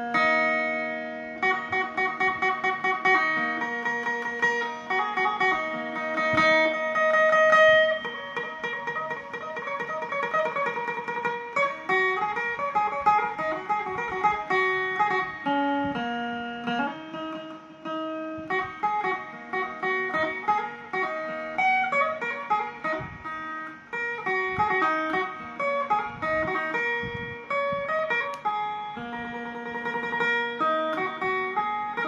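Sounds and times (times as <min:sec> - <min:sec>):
amplified plucked lute melody: 0:00.0 - 0:32.0.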